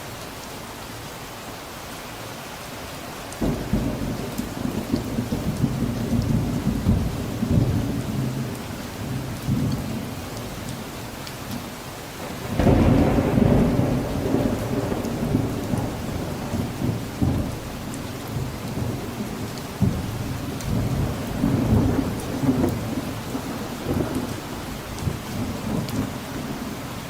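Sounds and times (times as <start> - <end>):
steady rain falling: 0.0 - 27.0
thunder clap and rumble: 3.4 - 10.8, 12.2 - 27.0.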